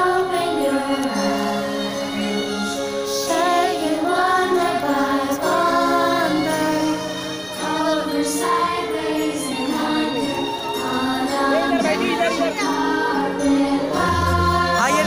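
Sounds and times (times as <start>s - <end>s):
choir singing with music: 0.0s - 15.0s.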